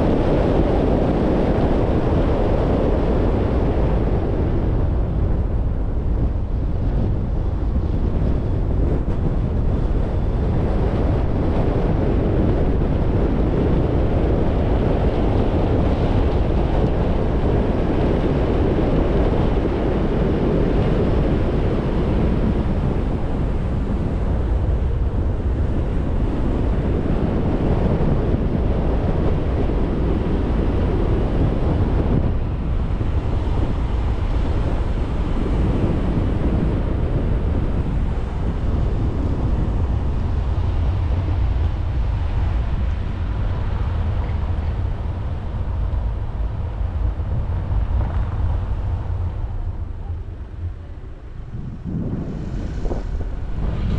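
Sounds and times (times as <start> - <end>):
car engine and tyre noise: 0.0 - 53.9
wind on microphone: 0.0 - 53.9.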